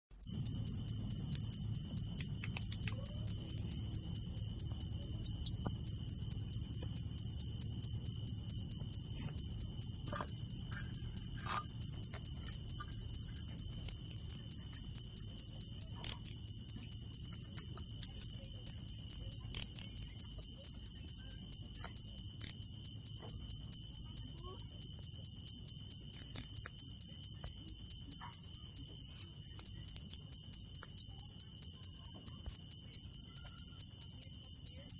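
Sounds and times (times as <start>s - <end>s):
cricket chirping: 0.2s - 34.9s.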